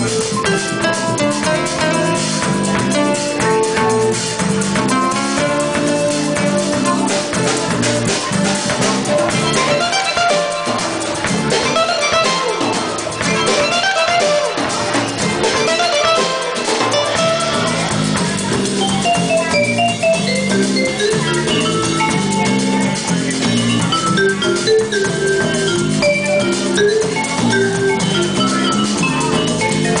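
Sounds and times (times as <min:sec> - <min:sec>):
bass guitar line: 0:00.0 - 0:30.0
electric guitar lead: 0:00.0 - 0:30.0
regular beat: 0:00.0 - 0:30.0.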